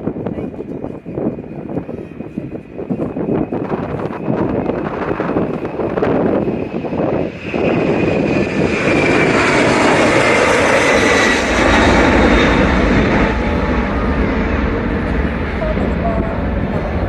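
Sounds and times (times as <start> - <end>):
deep rumble: 0.0 - 17.0
high fan whine: 0.0 - 17.0
jet engines at takeoff power: 0.0 - 17.0.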